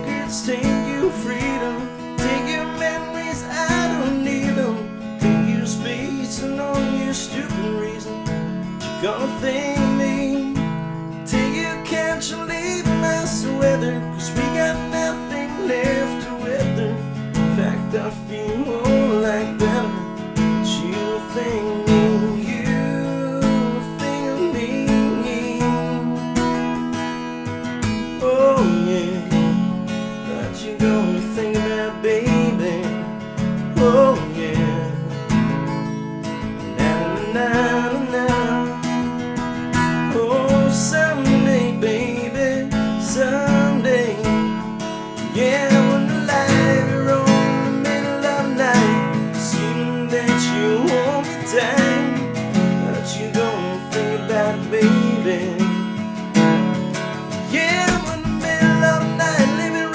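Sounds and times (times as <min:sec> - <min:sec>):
strummed acoustic guitar chords: 0:00.0 - 0:59.9.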